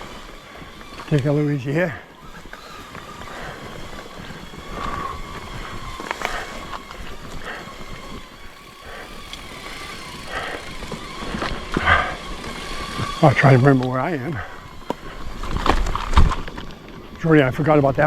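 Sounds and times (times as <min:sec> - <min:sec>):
bicycle rattles and clicks: 0:00.0 - 0:18.0
bicycle tyres on dirt: 0:00.0 - 0:18.0.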